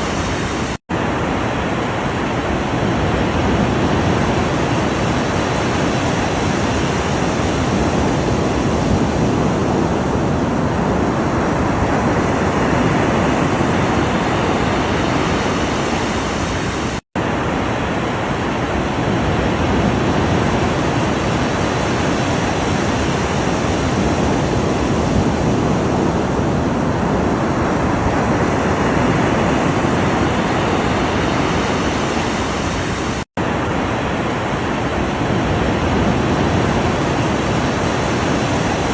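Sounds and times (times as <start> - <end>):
ocean waves surf: 0.0 - 38.9.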